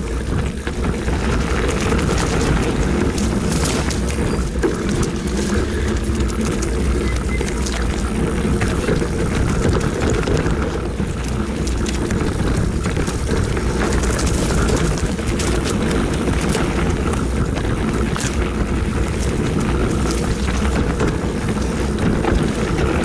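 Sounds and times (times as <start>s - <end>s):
bike clicking and rattling: 0.0s - 23.0s
wind rumble on microphone: 0.0s - 23.0s.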